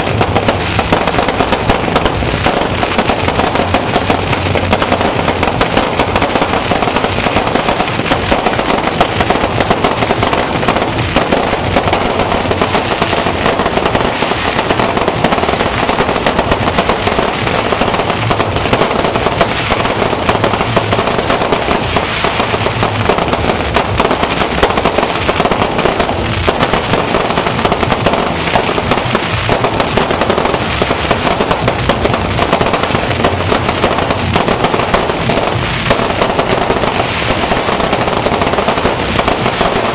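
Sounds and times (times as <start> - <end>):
firecrackers crackling bangs: 0.0 - 39.9.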